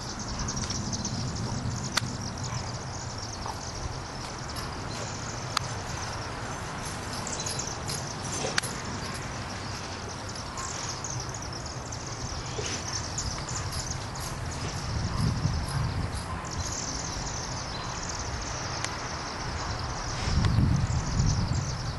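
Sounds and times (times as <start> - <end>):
swifts chattering: 0.0 - 21.9.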